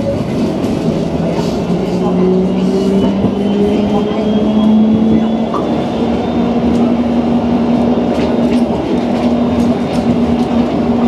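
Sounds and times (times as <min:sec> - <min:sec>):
tram wheels rumbling on rail: 0:00.0 - 0:11.0.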